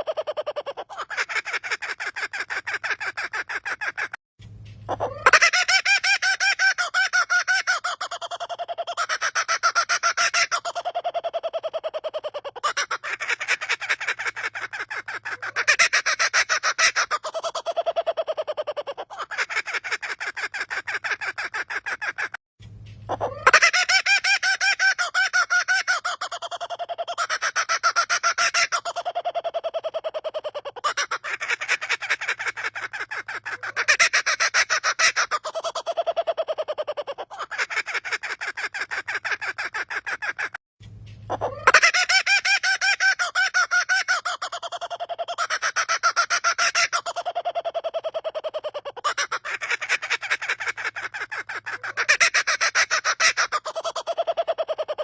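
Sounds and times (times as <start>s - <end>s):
bird laughing call: 0.0s - 4.2s, 4.8s - 22.4s, 23.0s - 40.6s, 41.2s - 55.0s.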